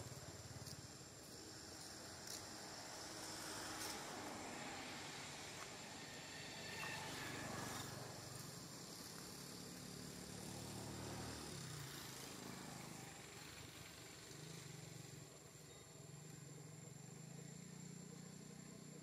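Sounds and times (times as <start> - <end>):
faint engine hum: 0.0 - 19.0.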